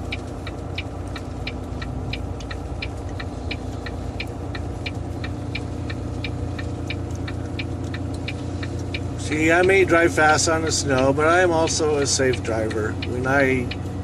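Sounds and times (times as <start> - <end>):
diesel engine braking: 0.0 - 14.0.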